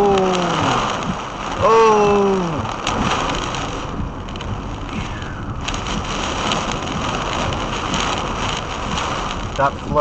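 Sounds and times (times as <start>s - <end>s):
storm wind and rain on vehicle: 0.0s - 10.0s.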